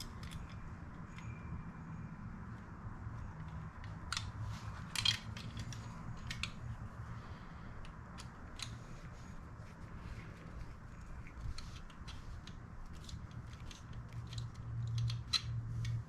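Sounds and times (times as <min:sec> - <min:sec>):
metal parts and hand tools clicking: 0:00.0 - 0:01.6, 0:03.1 - 0:16.0
low steady hum: 0:00.0 - 0:16.0.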